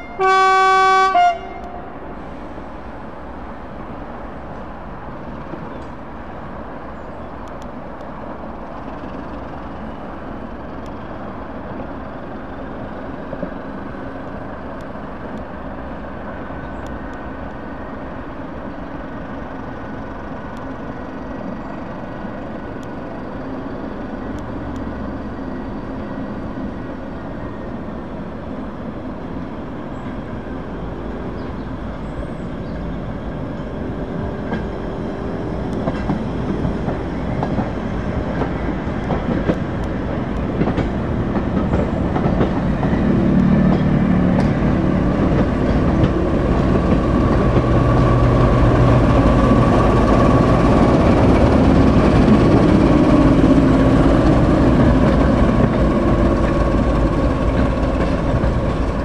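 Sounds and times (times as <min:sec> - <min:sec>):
diesel locomotive rumble: 0:00.0 - 0:59.0
train wheels on rails: 0:00.0 - 0:59.0.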